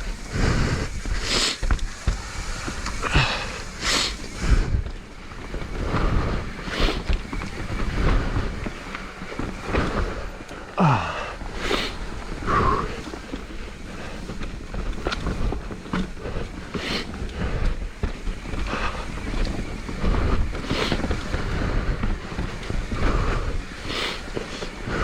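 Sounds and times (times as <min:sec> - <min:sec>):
hard breathing: 0:00.0 - 0:08.6, 0:09.2 - 0:25.0
bike tyre and frame rumble: 0:00.0 - 0:25.0
microphone wind noise: 0:00.0 - 0:25.0.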